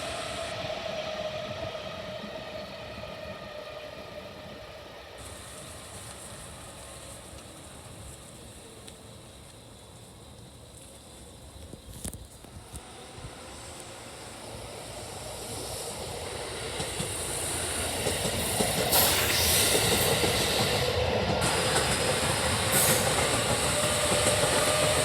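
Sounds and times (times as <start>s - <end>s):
freight train passing: 0.0s - 25.0s.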